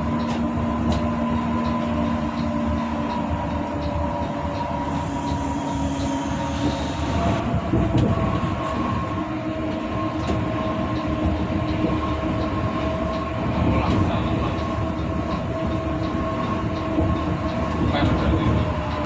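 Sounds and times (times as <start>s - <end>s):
bus engine drone: 0.0s - 19.0s
constant hum: 0.0s - 19.0s.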